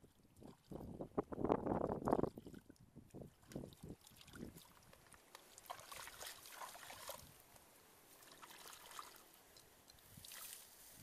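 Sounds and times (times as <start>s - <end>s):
water trickling and dripping: 0.0s - 10.7s
small water splashes: 0.0s - 10.8s.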